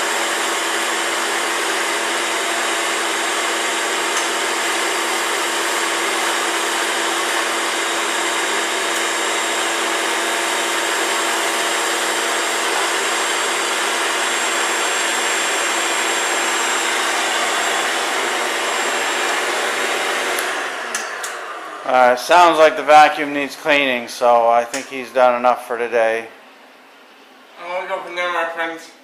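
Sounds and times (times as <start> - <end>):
vacuum cleaner running: 0.0 - 26.5.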